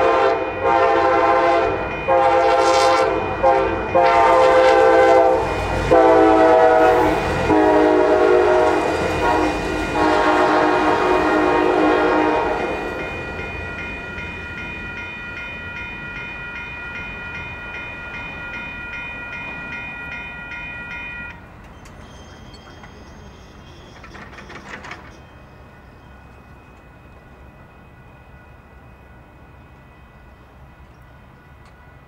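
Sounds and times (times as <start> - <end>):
railroad crossing bell ringing: 0.0 - 32.0
train rumble: 0.0 - 32.0.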